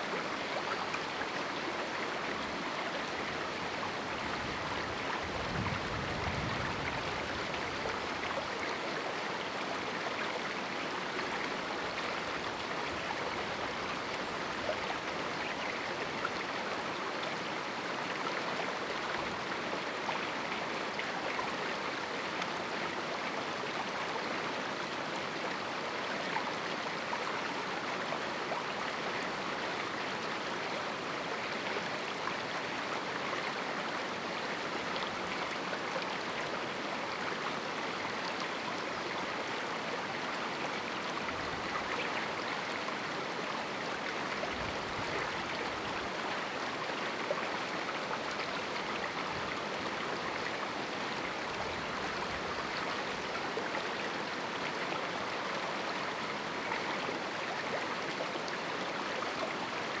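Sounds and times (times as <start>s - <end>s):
river flowing over rocks: 0.0s - 60.0s.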